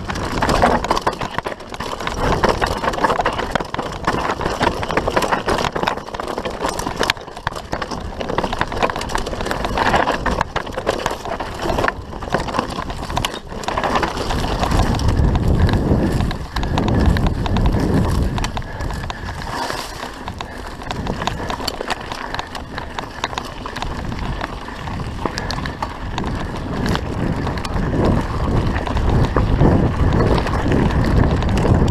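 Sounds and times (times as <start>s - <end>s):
bike rattling over rough trail: 0.0s - 31.9s
tyres crunching on loose ground: 0.0s - 31.9s
wind buffeting microphone: 0.0s - 31.9s.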